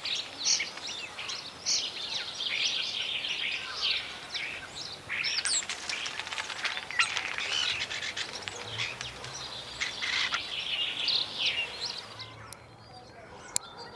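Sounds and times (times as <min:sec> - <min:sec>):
starling singing: 0:00.0 - 0:12.7.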